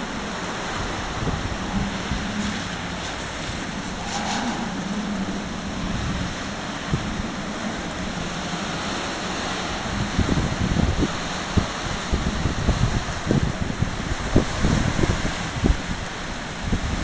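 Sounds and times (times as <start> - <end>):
strong wind blowing: 0.0 - 17.0
wind buffeting microphone: 0.0 - 17.0.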